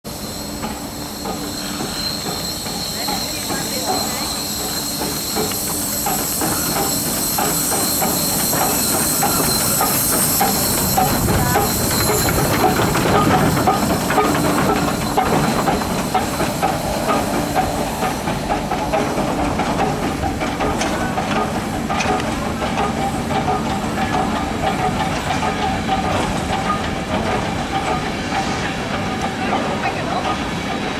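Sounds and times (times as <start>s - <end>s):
steam hissing: 0.1s - 30.9s
wheels clicking on rails: 0.6s - 30.9s.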